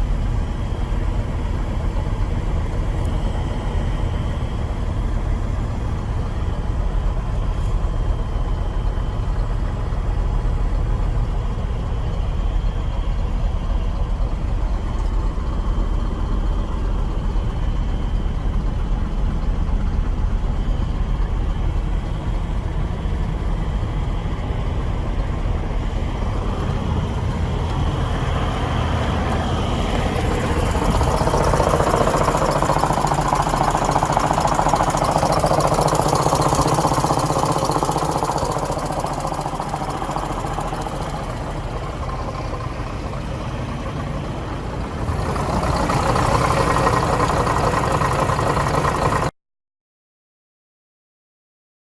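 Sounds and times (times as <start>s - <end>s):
loud rough mechanical sound: 0.0s - 49.3s
truck engine idling: 0.0s - 49.3s.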